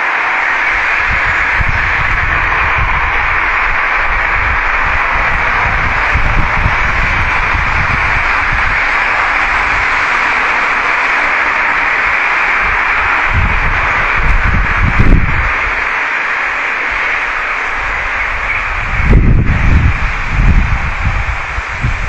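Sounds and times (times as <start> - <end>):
loud steady hiss: 0.0 - 22.0
low rumble: 0.6 - 22.0.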